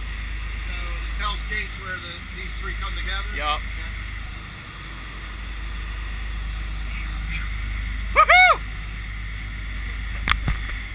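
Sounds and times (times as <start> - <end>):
boat engine rumble: 0.0 - 10.9
rushing wake water: 0.0 - 10.9
wind: 0.0 - 10.9.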